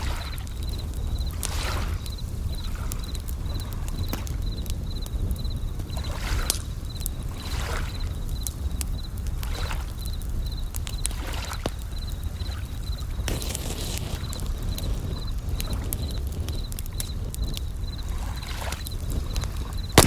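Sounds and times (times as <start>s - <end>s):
campfire crackling and popping: 0.0s - 20.0s
crickets chirping: 0.0s - 20.0s.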